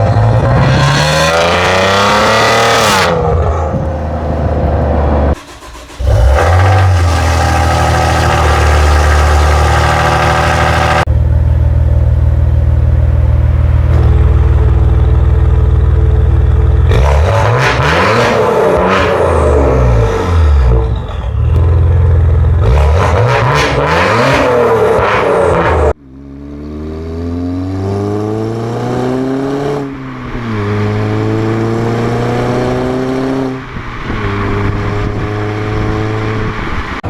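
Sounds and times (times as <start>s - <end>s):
car engine revving and idling: 0.0s - 37.0s.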